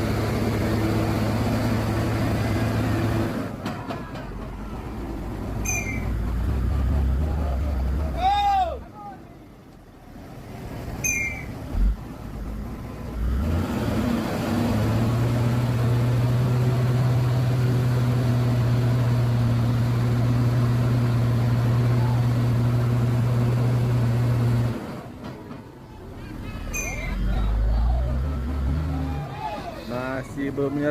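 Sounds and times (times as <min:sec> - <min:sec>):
truck diesel engine revving: 0:00.0 - 0:03.6, 0:04.4 - 0:08.4, 0:10.2 - 0:25.2, 0:26.3 - 0:30.9.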